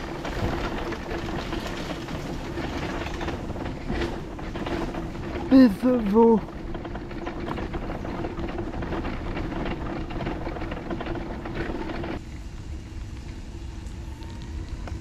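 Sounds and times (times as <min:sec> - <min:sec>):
wheels rattling on paving bricks: 0:00.0 - 0:12.3.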